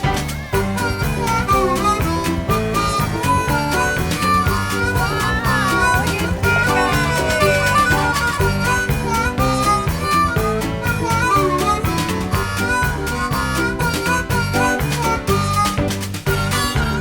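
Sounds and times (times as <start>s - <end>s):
plucked guitar with beat: 0.0s - 17.0s
upbeat harmonica tune: 0.0s - 17.0s.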